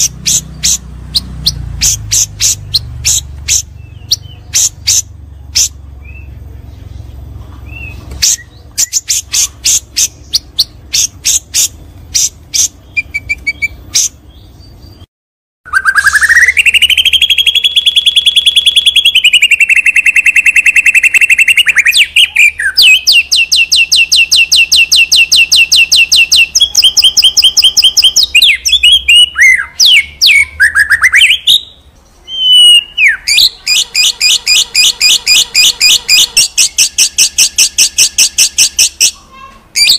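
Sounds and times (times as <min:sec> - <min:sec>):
songbird singing trills: 0:00.0 - 0:15.1, 0:15.7 - 0:39.9.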